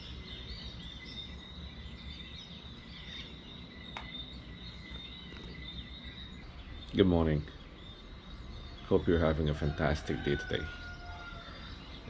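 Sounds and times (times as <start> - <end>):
birds chirping in chorus: 0.0 - 12.0
steady high-pitched whine: 0.0 - 12.0.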